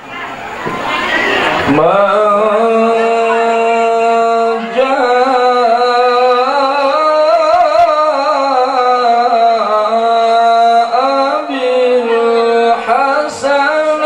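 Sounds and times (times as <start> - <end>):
man chanting melodically into microphone: 1.7 - 14.0.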